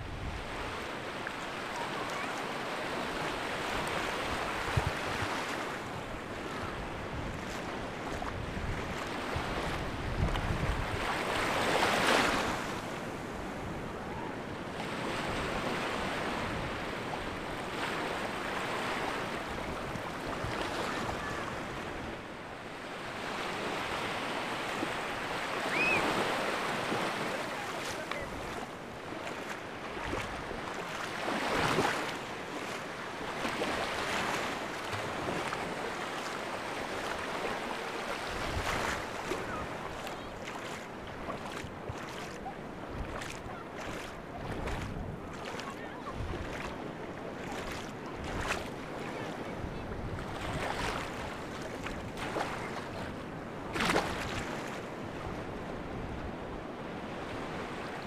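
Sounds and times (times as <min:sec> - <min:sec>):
small waves washing on sand: 0:00.0 - 0:58.0.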